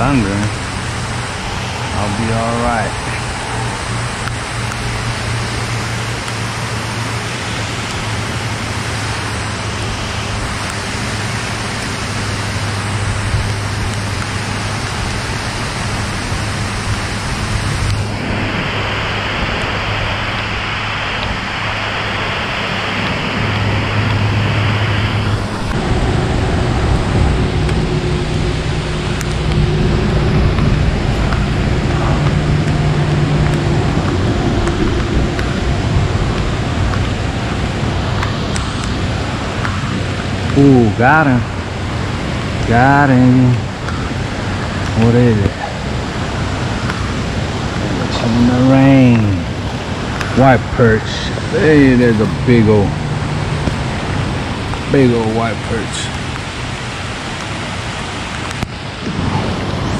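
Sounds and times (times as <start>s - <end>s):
low steady hum: 0.0s - 59.9s
steady rain: 0.0s - 59.9s.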